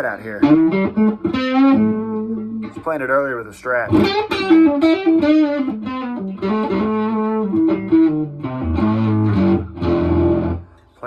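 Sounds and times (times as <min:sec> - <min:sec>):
fuzzy electric guitar notes: 0:00.0 - 0:02.9, 0:03.9 - 0:10.8.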